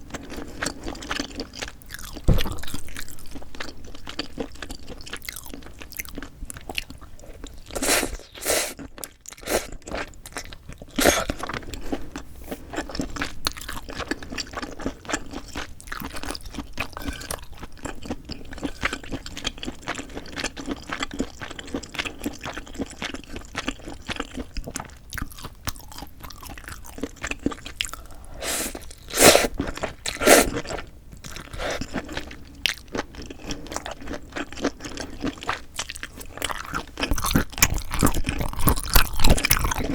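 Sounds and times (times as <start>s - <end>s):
wet crunchy chewing of food: 0.0s - 39.9s.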